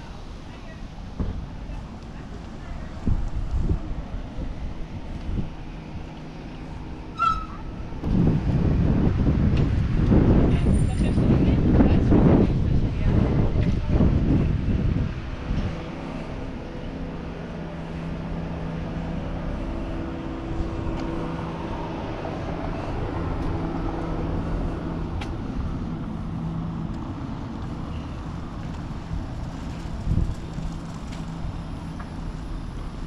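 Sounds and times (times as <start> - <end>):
street ambience: 0.0 - 33.0
vehicle engine humming: 0.0 - 33.0.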